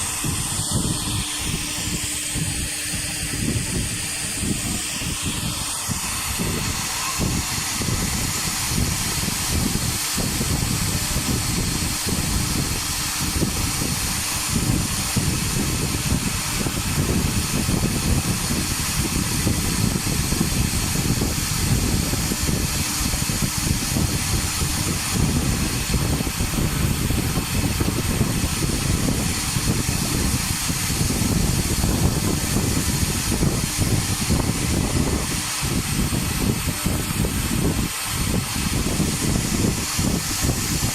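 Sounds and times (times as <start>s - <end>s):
cooling fan hiss: 0.0s - 40.9s
router bit carving wood: 0.0s - 40.9s
spindle high whine: 0.0s - 40.9s.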